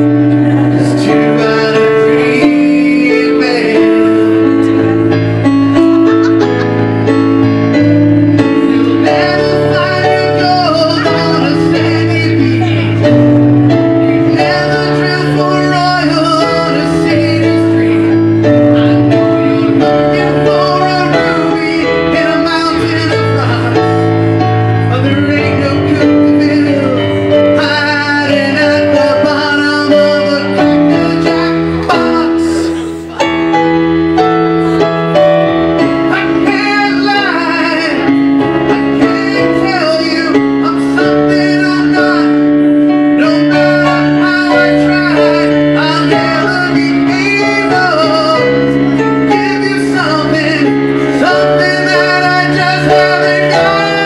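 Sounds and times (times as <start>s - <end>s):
keyboard accompaniment: 0.0s - 54.0s
man singing into a microphone: 0.0s - 54.0s.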